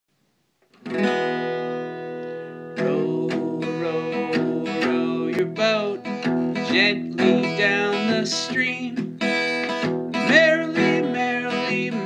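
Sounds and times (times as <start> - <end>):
acoustic guitar strumming: 0.7 - 12.0.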